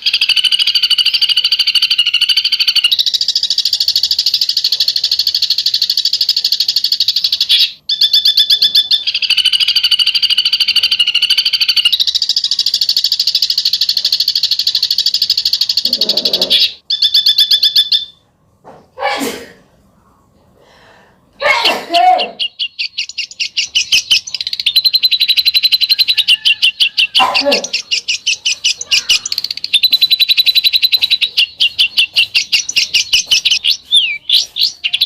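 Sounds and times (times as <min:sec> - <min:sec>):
songbird chattering trill: 0:00.0 - 0:18.1, 0:22.0 - 0:35.0.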